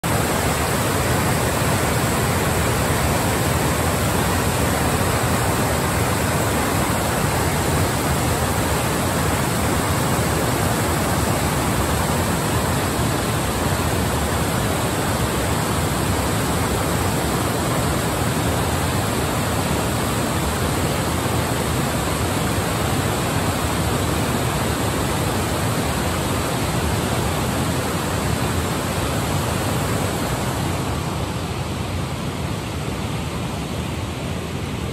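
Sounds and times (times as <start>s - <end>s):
water roaring over a weir: 0.0s - 34.9s.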